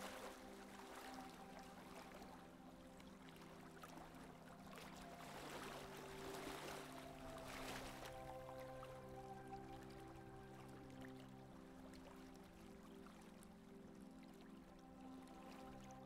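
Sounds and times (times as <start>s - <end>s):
water splashing along boat hull: 0.0s - 13.4s
soft music of long held notes: 0.0s - 16.0s.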